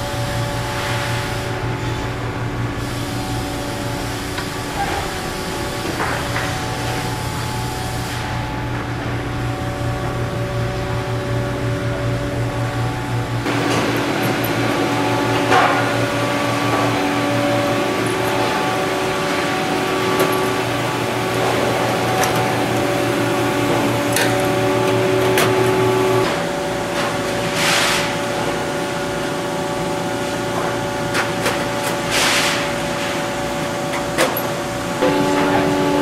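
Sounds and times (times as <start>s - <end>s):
workshop machine hum: 0.0s - 36.0s.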